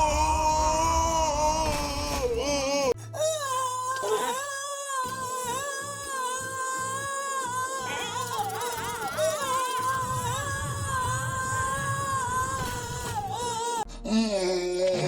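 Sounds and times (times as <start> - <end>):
effects-altered wavering voice moan: 0.0 - 15.0.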